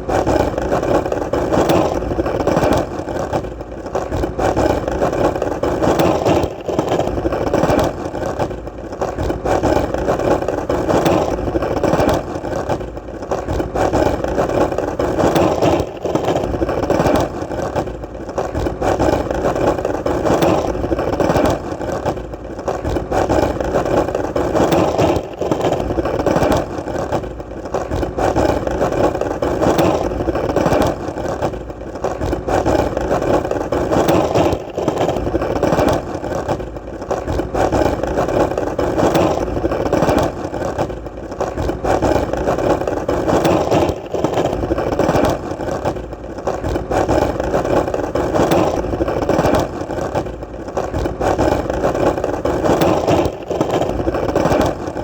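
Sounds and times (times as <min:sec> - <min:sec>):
skateboard wheels rolling: 0:00.0 - 0:55.0.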